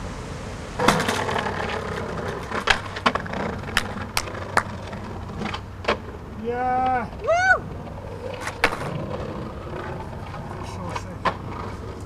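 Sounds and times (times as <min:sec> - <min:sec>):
skateboard dropped onto concrete: 0:00.8 - 0:07.2, 0:07.8 - 0:12.0
skateboard wheels clacking over joints: 0:00.8 - 0:12.0.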